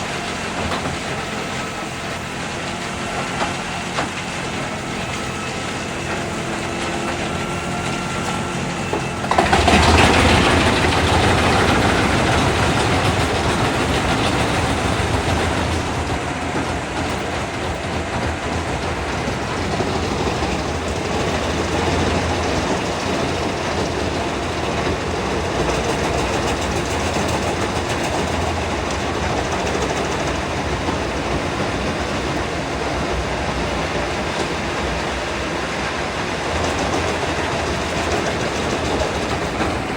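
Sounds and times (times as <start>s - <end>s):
wood chipper grinding wood: 0.0s - 39.9s.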